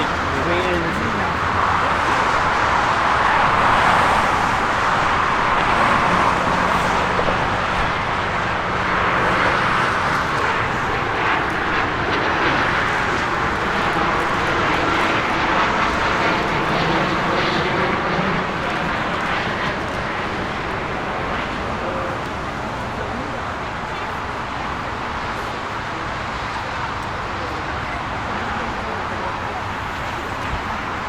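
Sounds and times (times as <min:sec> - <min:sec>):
jet aircraft engines passing: 0:00.0 - 0:31.0.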